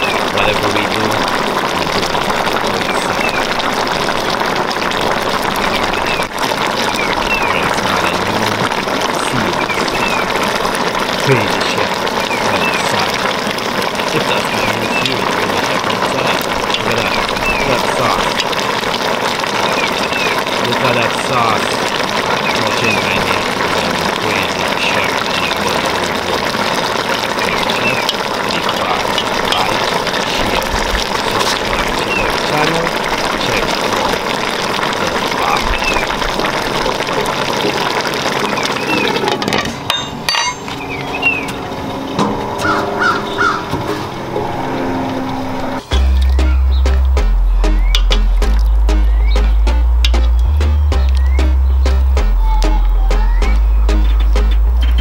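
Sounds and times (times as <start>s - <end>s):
pot bubbling at a simmer: 0.0s - 55.0s.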